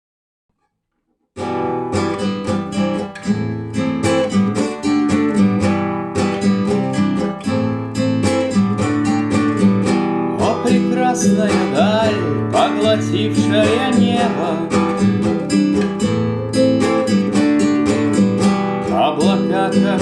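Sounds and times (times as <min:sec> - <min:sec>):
acoustic guitar strumming: 0:01.4 - 0:20.0.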